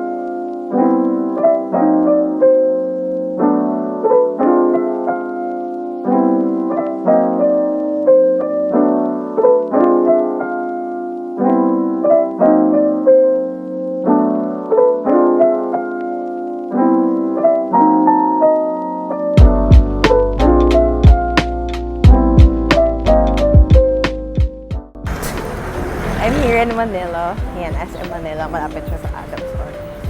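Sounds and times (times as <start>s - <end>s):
piano playing chords: 0.0s - 30.0s.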